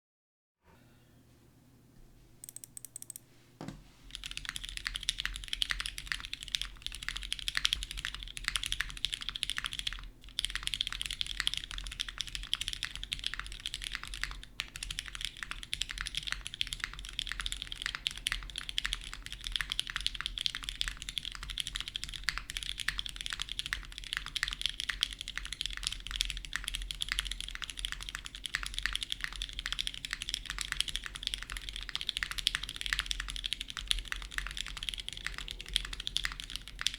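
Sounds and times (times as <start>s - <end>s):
faint low hum: 0.7s - 36.9s
mechanical keyboard typing: 2.4s - 3.2s, 4.1s - 36.9s.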